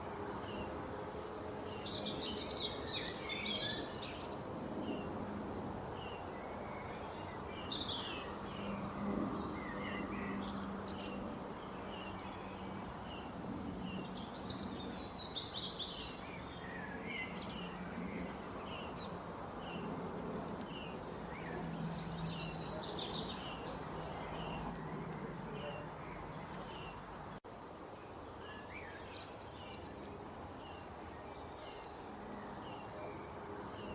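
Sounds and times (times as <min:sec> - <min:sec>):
small birds chirping: 0:00.0 - 0:05.3, 0:05.9 - 0:33.9.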